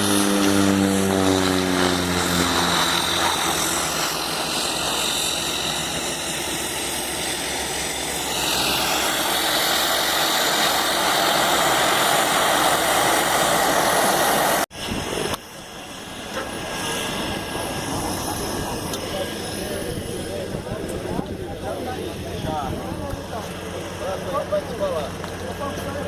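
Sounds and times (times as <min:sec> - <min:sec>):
high turbine whine: 0:00.0 - 0:26.0
turboprop engines running: 0:00.0 - 0:26.0.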